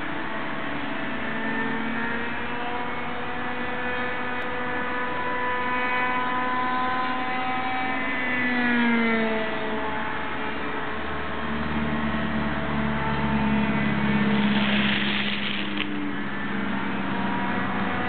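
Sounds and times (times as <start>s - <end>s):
model aircraft engines buzzing: 0.0s - 18.0s.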